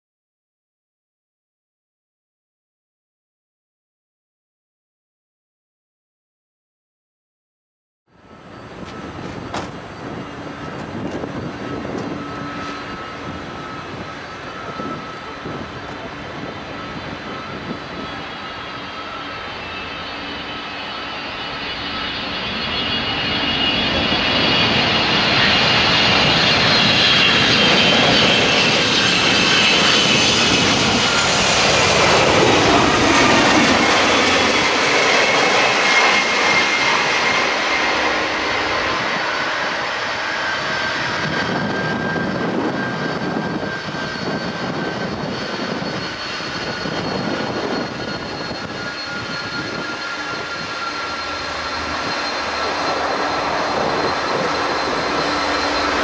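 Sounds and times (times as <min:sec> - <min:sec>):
jet engines roaring and whining: 0:08.1 - 0:56.0.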